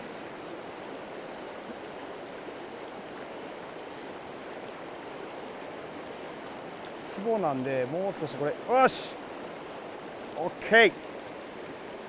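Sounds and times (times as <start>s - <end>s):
river rapids rushing over rocks: 0.0s - 12.0s.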